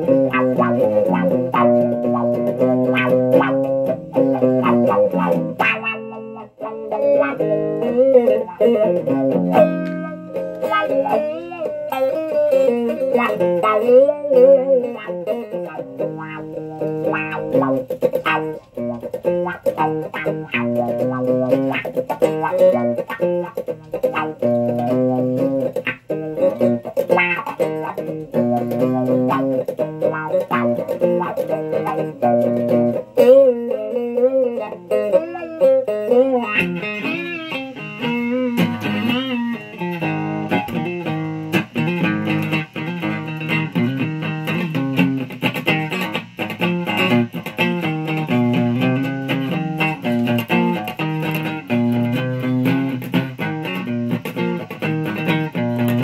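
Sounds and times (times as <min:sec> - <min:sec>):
electric guitar with string bends: 0:00.0 - 0:56.0.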